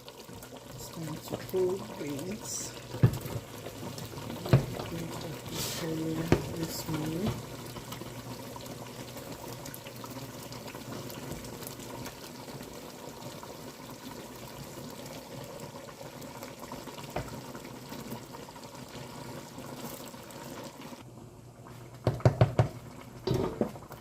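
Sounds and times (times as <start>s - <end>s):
sauce bubbling and sizzling in pot: 0.0s - 24.0s.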